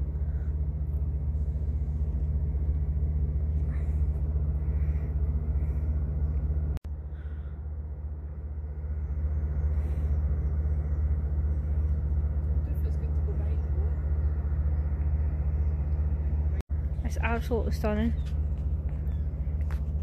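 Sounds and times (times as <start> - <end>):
low mechanical rumble: 0.0 - 20.0.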